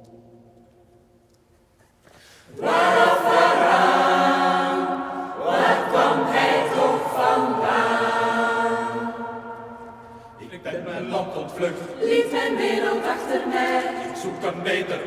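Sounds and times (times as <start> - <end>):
mixed choir singing: 2.5 - 15.0.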